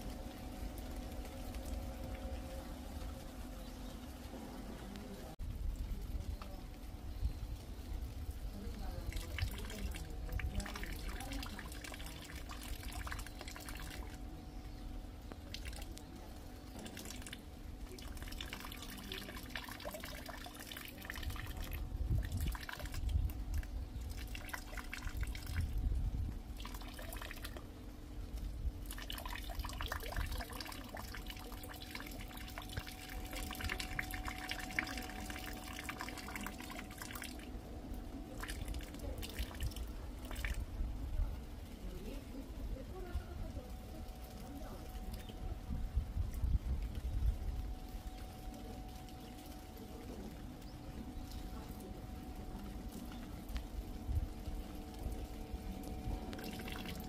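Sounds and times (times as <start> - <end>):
rainwater trickling: 0.0 - 57.0
water drops dripping: 8.6 - 41.0, 43.1 - 57.0.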